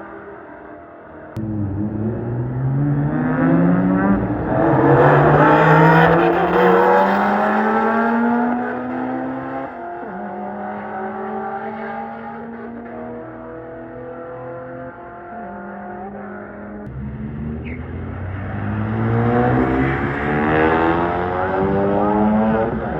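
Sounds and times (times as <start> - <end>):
race car engine accelerating: 1.4 - 22.9.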